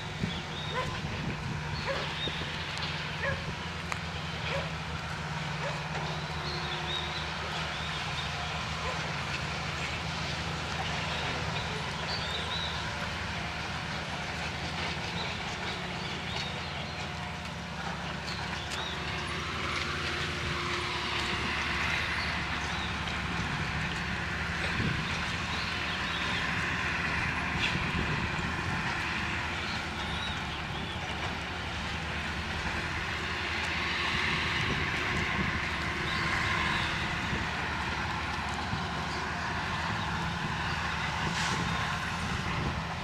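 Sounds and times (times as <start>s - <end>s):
engine humming: 0.0s - 43.0s.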